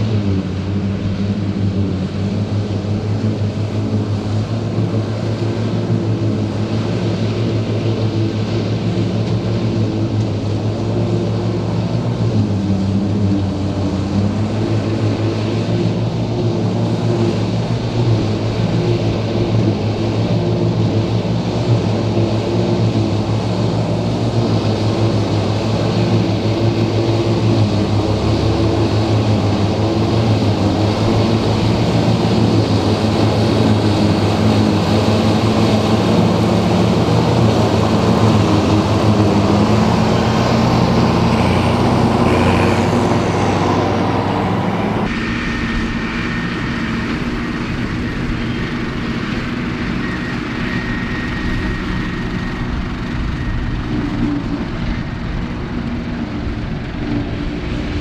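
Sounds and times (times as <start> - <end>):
tractor diesel engine running: 0.0 - 58.0
machinery working: 8.6 - 58.0.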